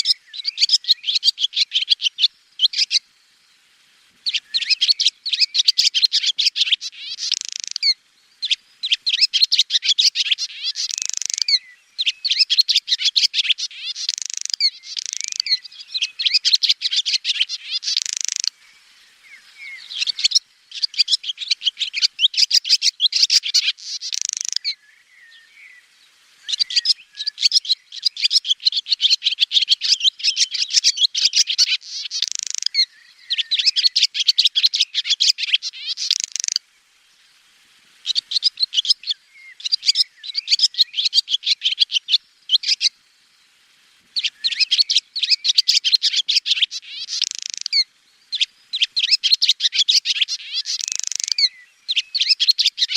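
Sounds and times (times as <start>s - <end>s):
swallow twittering: 0.0s - 3.0s, 4.2s - 25.8s, 26.4s - 36.6s, 38.0s - 43.0s, 44.2s - 52.9s.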